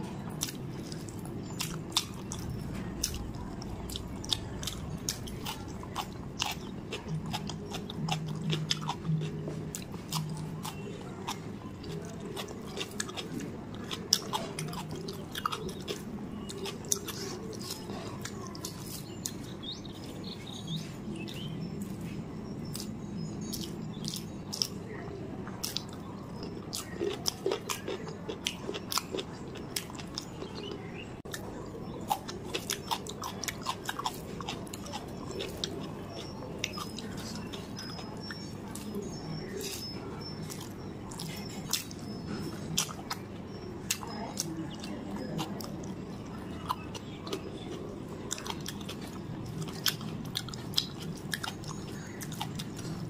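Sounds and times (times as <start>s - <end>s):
wet chewing and lip smacks: 0.3s - 24.8s, 25.6s - 53.0s.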